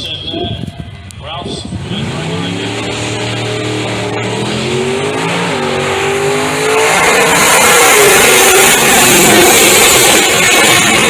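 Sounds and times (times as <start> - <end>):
drag car engine roaring: 0.0 - 11.0.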